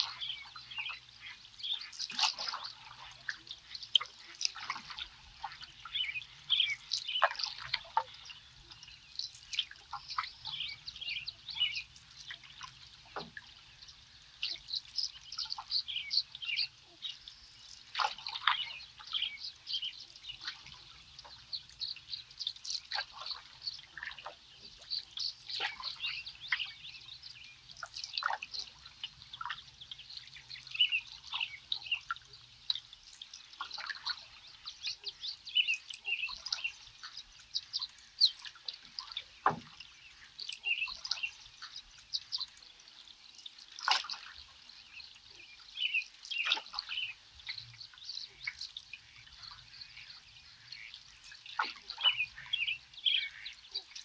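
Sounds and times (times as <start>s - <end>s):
small birds chirping and singing: 0.0s - 54.0s
water dripping off paddle: 0.0s - 54.0s.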